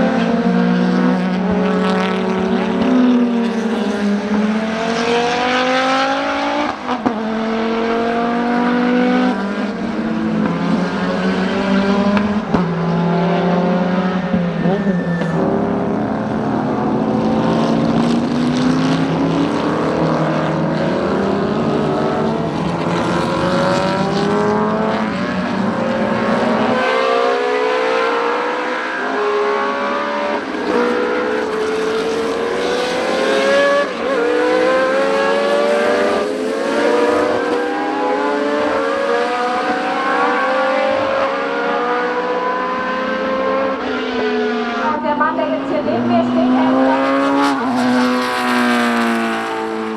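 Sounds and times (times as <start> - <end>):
racing car engines revving: 0.0 - 49.9.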